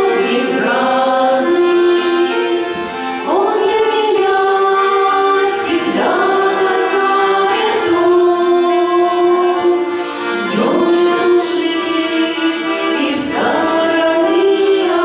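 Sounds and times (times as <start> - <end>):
vocal ensemble singing in harmony: 0.0 - 15.0.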